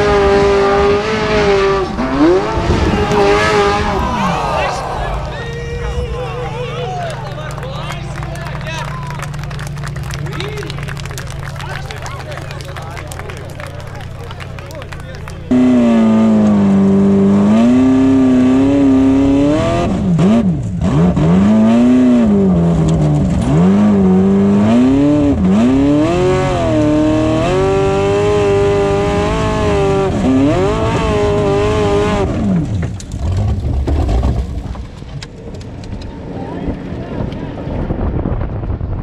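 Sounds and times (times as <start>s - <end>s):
rumbling rush of noise: 0.0s - 27.2s, 28.8s - 39.0s
buggy engine revving hard: 0.0s - 34.5s.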